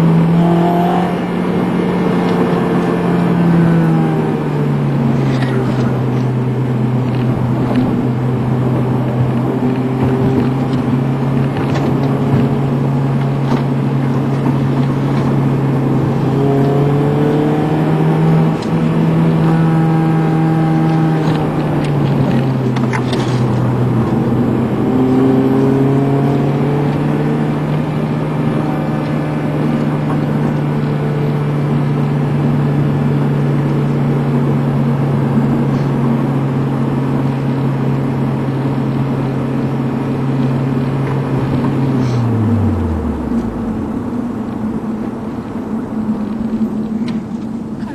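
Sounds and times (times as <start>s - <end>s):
car engine from inside cabin: 0.0s - 47.9s
road and tyre noise: 0.0s - 47.9s.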